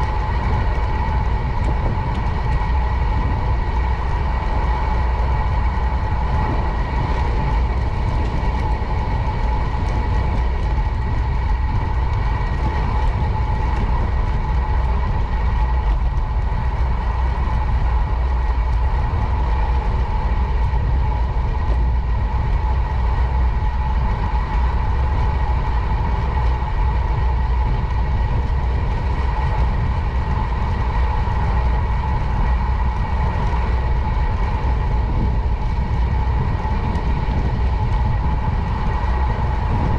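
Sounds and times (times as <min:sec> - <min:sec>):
wind and tyre noise: 0:00.0 - 0:39.9.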